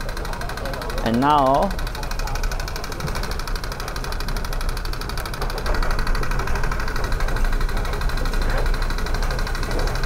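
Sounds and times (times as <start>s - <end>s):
escalator machinery clicking: 0.0s - 10.0s.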